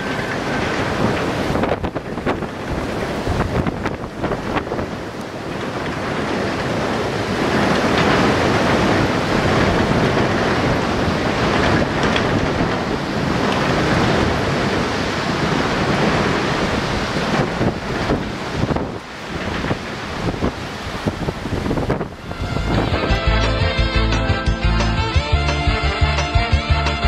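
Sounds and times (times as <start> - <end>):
wind on microphone: 0.0 - 24.0
river rapids rushing: 0.0 - 26.6
cars rolling across a bridge: 0.0 - 27.0.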